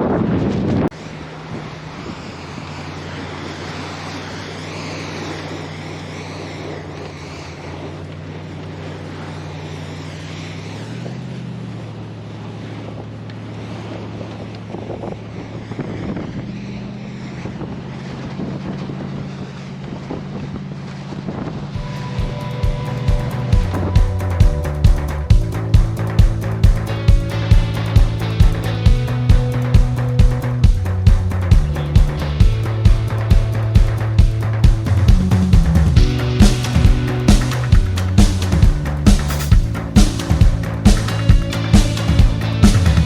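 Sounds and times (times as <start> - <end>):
wind noise on microphone: 0.0 - 11.5, 12.7 - 43.0
vehicle engine running: 0.9 - 43.0.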